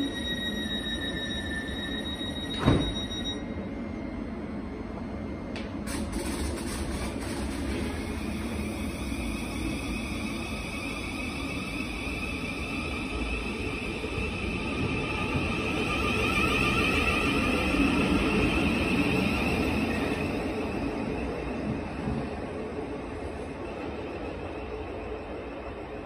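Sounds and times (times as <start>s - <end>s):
electric train traction whine: 0.0s - 25.7s.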